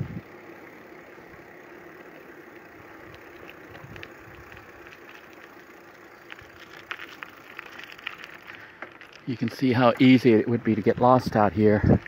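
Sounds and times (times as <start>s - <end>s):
bicycle rolling on dirt: 0.0s - 12.0s.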